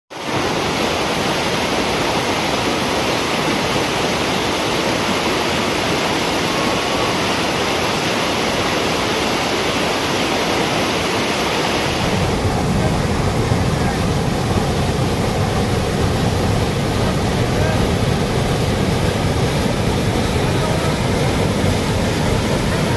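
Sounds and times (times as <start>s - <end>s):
waterfall roaring: 0.1s - 22.9s.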